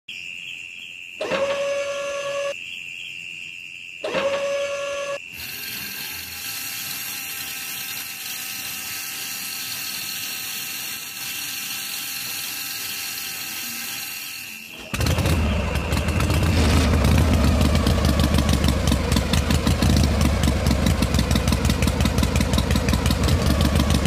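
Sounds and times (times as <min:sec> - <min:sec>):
small electric motor whining: 0:01.2 - 0:02.5, 0:04.0 - 0:24.0.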